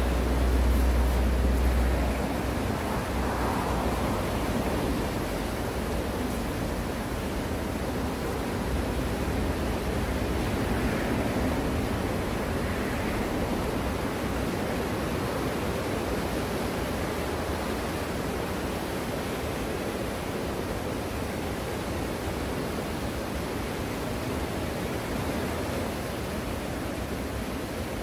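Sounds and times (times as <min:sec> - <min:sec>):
small waves breaking on beach: 0:00.0 - 0:28.0.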